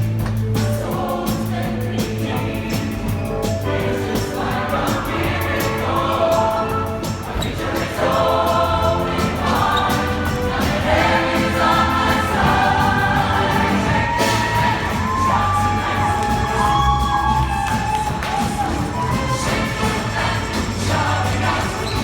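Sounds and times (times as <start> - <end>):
musical accompaniment: 0.0 - 22.0
vocal group singing: 0.0 - 22.0.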